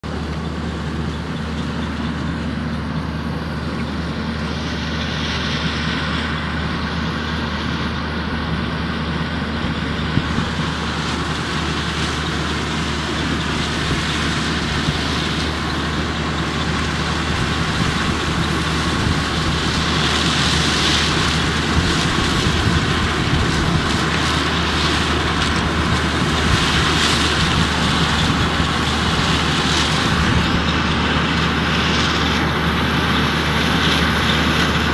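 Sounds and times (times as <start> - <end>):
combine engine hum: 0.0 - 34.9
machinery rattle: 0.0 - 34.9.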